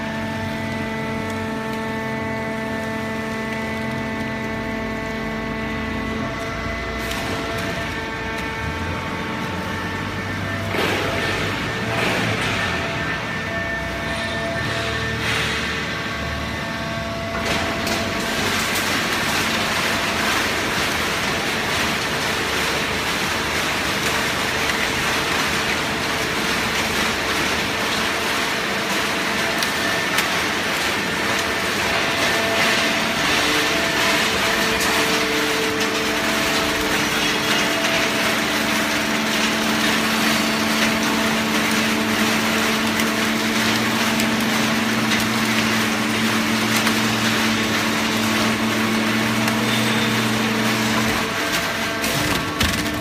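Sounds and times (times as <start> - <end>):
baler machinery running: 0.0 - 53.0.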